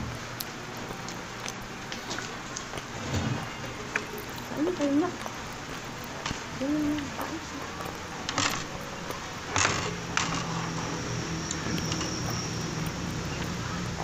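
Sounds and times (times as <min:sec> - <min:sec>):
biting and chewing food: 0:00.0 - 0:14.0.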